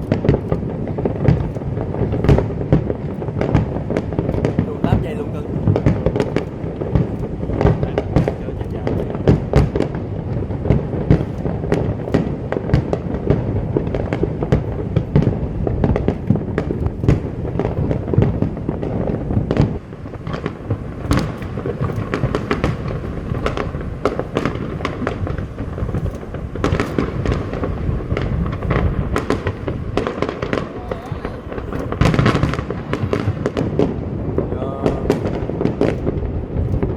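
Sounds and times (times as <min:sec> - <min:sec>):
fireworks bangs and crackling: 0:00.0 - 0:36.9.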